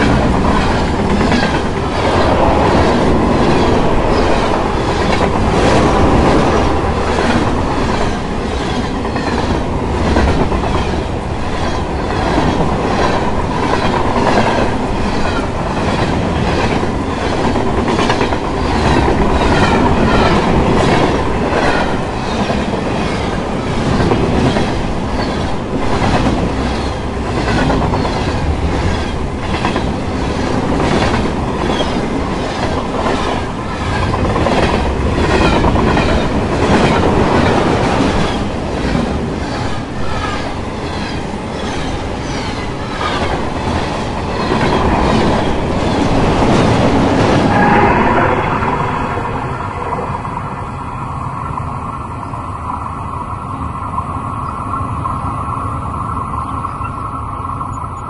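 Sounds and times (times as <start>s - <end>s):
train wheels clickety-clack: 0.0s - 49.0s
train rumble: 0.0s - 58.0s.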